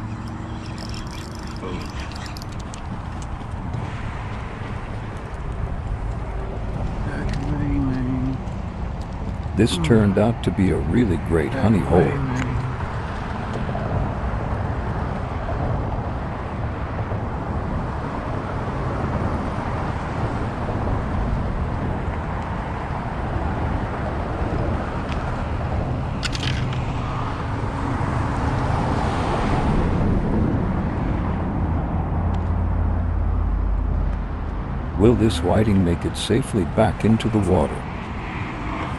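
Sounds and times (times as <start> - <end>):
road traffic noise: 0.0 - 38.9.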